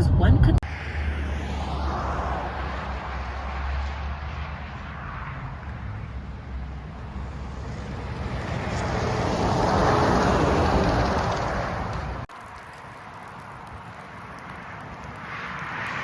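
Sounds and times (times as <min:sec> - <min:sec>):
semi truck passing: 0:00.6 - 0:16.0.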